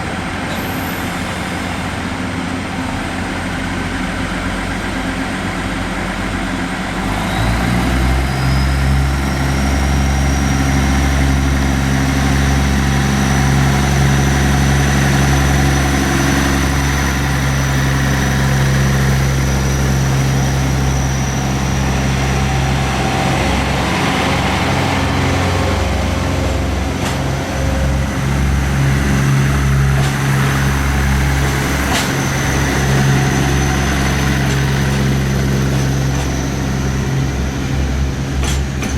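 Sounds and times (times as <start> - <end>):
diesel engines idling: 0.0 - 38.9.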